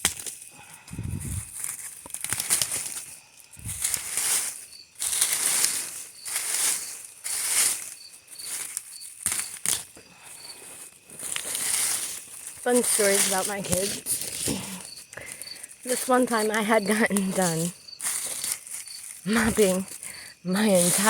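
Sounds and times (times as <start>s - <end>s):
rustling scraping yard work: 0.3s - 21.0s.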